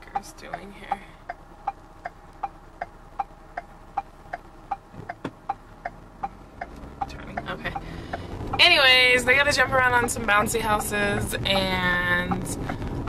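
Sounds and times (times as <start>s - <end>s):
low road hum: 0.0s - 13.0s
turn signal ticking: 0.0s - 13.0s.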